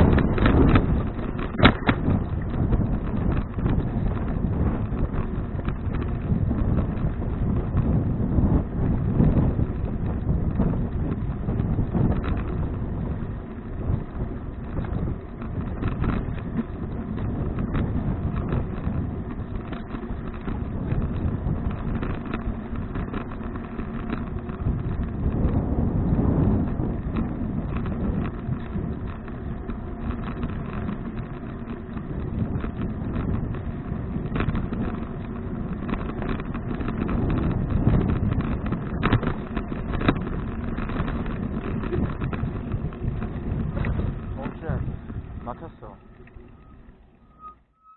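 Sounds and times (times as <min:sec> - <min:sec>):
wind buffeting microphone: 0:00.0 - 0:47.6.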